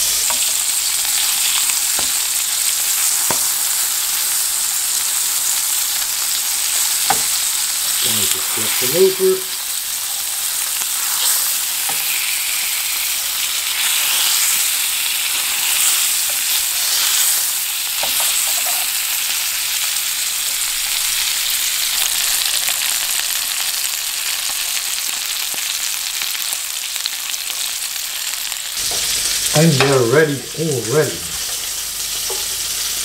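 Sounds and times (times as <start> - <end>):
meat sizzling in a frying pan: 0.0 - 33.0.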